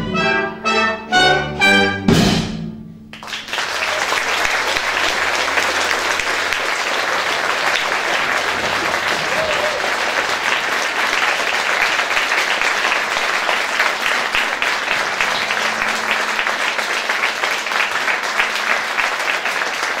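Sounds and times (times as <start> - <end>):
audience applauding: 3.1 - 20.0.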